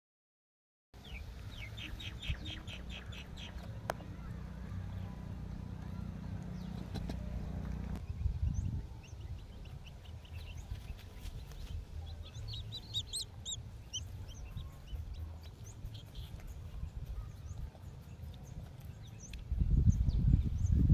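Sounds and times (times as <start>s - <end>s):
low rumbling noise: 1.0s - 20.9s
small birds chirping: 1.0s - 20.9s.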